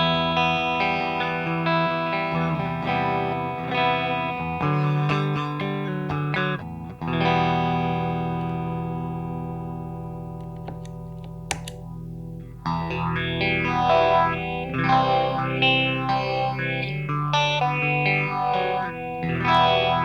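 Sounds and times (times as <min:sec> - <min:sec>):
electric guitar with phaser: 0:00.0 - 0:20.0.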